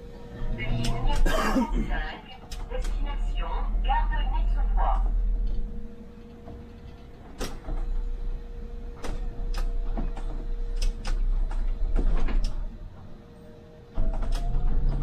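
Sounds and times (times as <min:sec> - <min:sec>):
bus interior rumble: 0:00.0 - 0:15.0.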